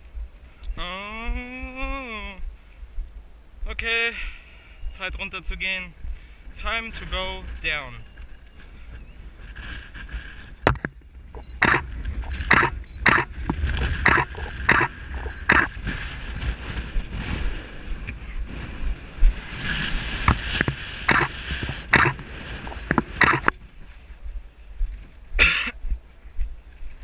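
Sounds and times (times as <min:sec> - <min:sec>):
wind rumble on microphone: 0:00.0 - 0:04.0, 0:04.8 - 0:27.0.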